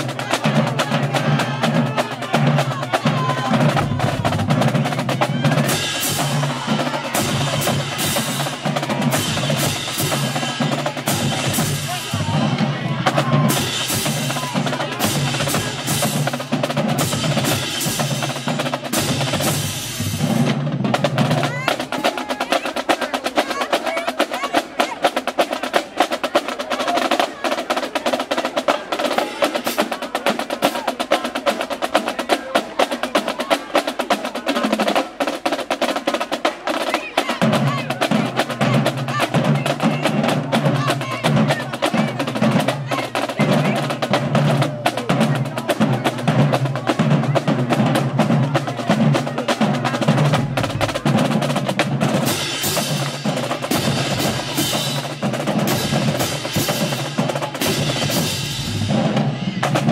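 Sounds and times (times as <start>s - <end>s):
snare and tenor drums cadence: 3.6s - 59.9s.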